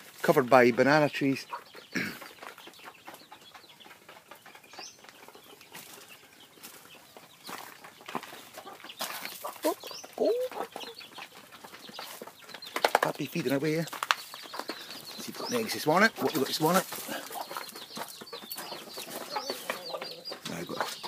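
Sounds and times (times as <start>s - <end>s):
chicken calls: 0.0s - 21.0s
chickens clucking: 0.0s - 21.0s
scratching and rustling: 1.6s - 21.0s.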